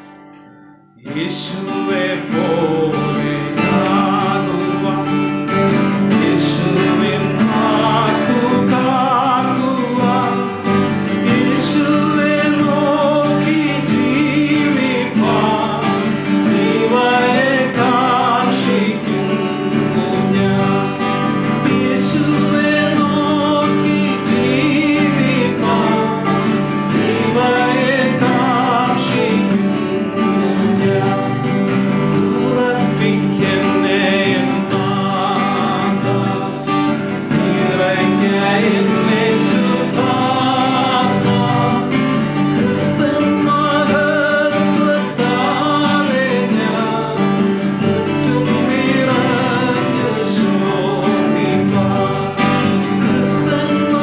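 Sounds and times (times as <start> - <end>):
acoustic guitars: 0.0 - 54.0
man and woman singing: 1.1 - 54.0.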